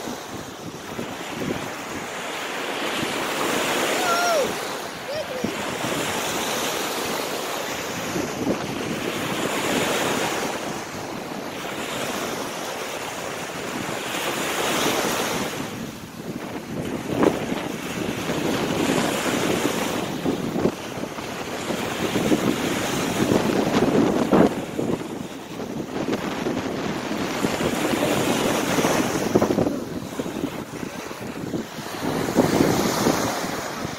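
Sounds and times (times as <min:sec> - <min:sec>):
small waves washing ashore: 0:00.0 - 0:33.9
wind on microphone: 0:00.0 - 0:33.9.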